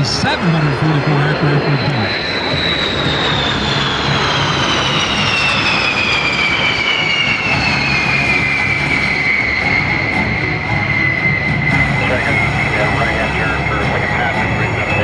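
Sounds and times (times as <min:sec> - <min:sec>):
jet bomber passing low overhead: 0:00.0 - 0:15.0.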